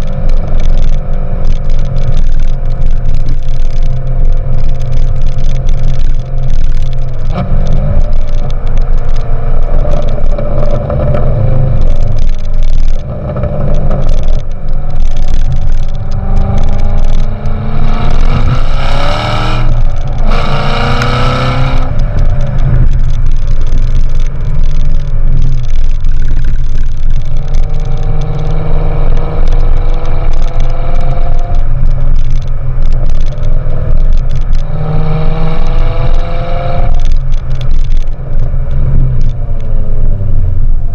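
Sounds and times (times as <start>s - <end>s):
car engine rumbling and revving: 0.0s - 40.9s.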